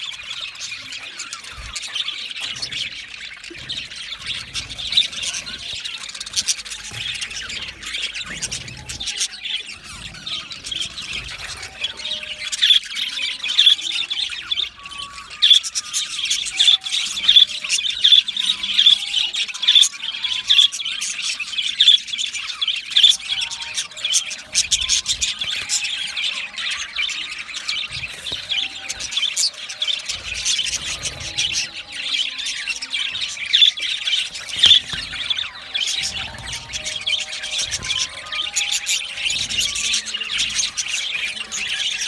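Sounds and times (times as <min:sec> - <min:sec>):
budgerigars chattering: 0:00.0 - 0:42.0.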